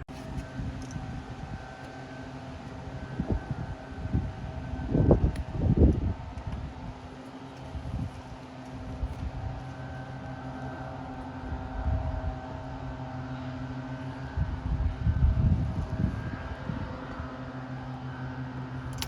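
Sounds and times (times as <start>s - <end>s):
low mechanical hum: 0.0s - 19.0s
wind buffeting microphone: 0.1s - 19.0s.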